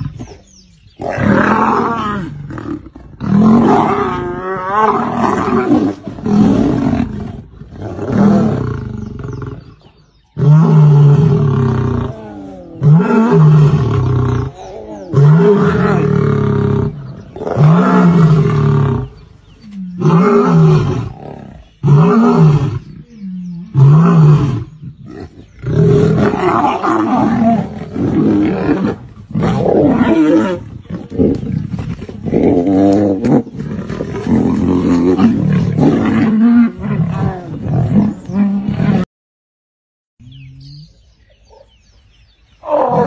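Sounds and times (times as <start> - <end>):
lions roaring and snarling: 0.0 - 39.1, 42.6 - 43.0.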